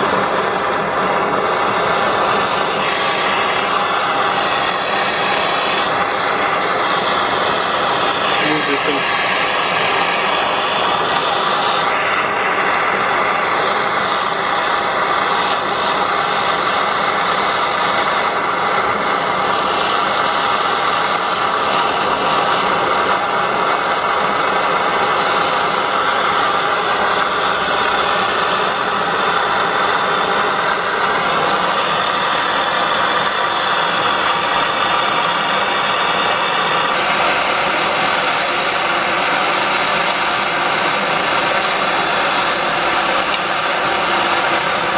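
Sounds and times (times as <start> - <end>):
blowtorch flame hissing roar: 0.0 - 44.9.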